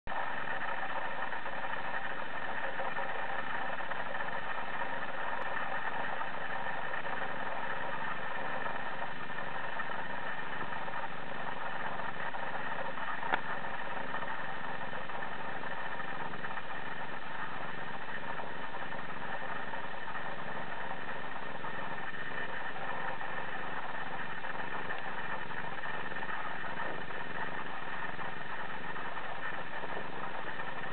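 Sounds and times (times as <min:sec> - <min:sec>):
steady hum: 0:00.1 - 0:30.9.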